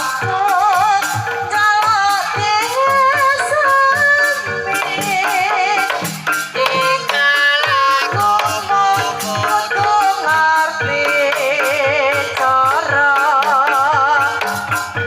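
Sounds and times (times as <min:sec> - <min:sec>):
woman singing melismatic vocal: 0:00.0 - 0:14.9
drum strokes: 0:00.0 - 0:15.0.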